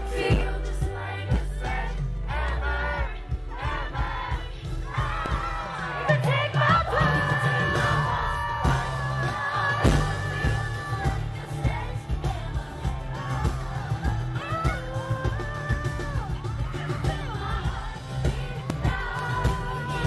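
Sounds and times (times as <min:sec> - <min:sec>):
heavy bass beat: 0:00.0 - 0:20.0
women singing with vibrato: 0:00.0 - 0:20.0.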